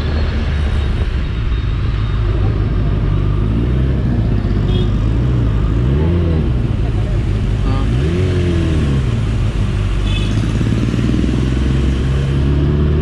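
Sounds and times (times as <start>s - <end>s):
motorcycle engine rumbling: 0.0s - 13.0s
road and wind noise: 0.0s - 13.0s.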